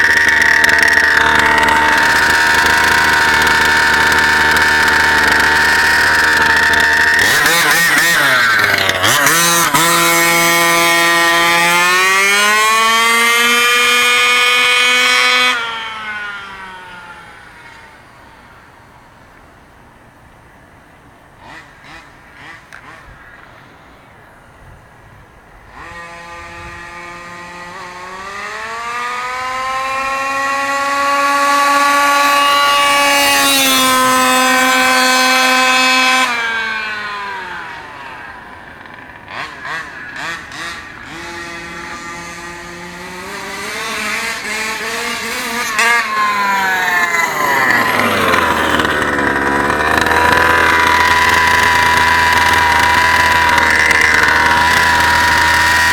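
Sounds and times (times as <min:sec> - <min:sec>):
two-stroke engine revving: 0:00.0 - 0:18.2, 0:21.4 - 0:23.6, 0:25.7 - 0:55.9.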